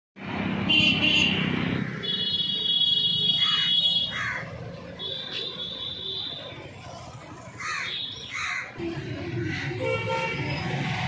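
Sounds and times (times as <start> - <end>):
street traffic: 0.2 - 11.0.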